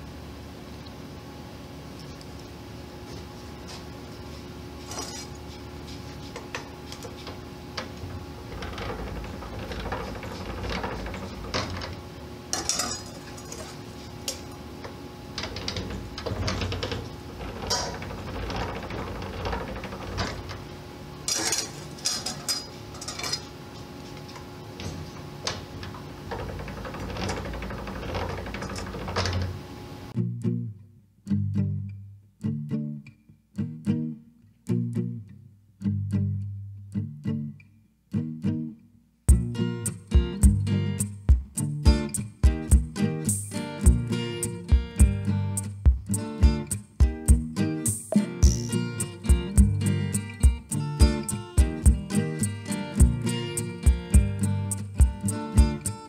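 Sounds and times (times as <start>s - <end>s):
steady hum: 0.0s - 30.2s, 39.3s - 56.0s.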